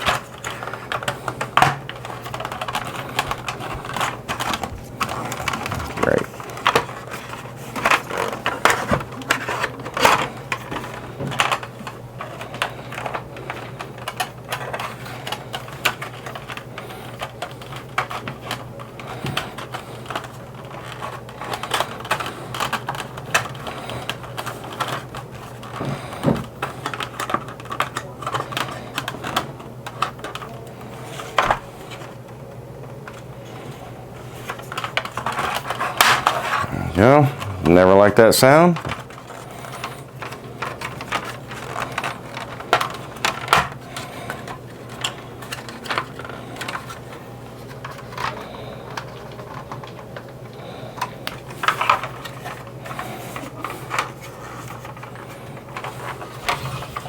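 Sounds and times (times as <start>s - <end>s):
steady low hum: 0.0s - 27.3s, 29.8s - 57.0s
plastic clicking and cracking: 0.0s - 37.8s, 38.5s - 57.0s.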